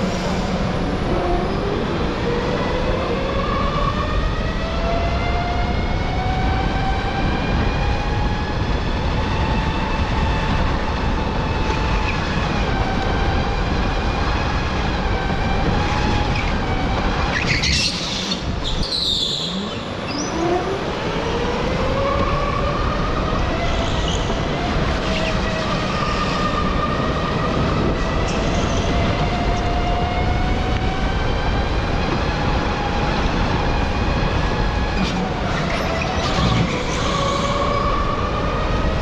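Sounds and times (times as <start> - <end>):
wind and tyre noise: 0.0 - 39.0.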